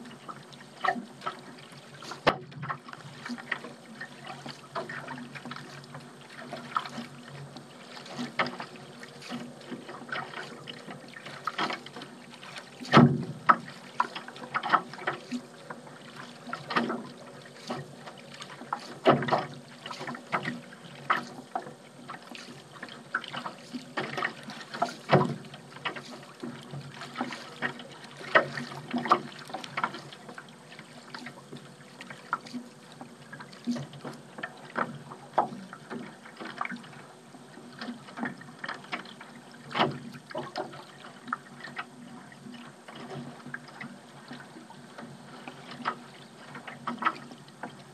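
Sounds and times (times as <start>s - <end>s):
paddle splashes and drips: 0.0s - 47.9s.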